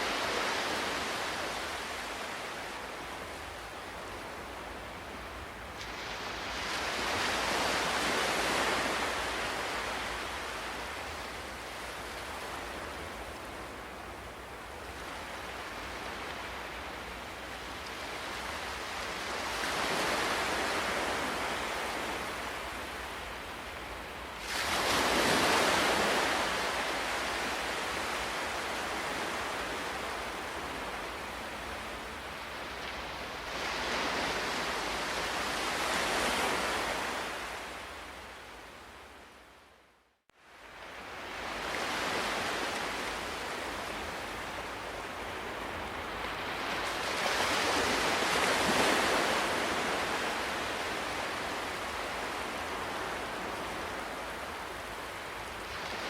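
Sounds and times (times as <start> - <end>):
ocean waves breaking on shore: 0.0 - 39.7, 40.4 - 56.0.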